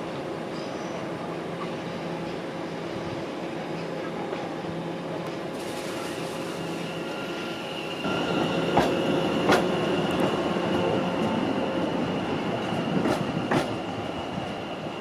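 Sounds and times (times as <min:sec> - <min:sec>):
train running on rails: 0:00.0 - 0:15.0.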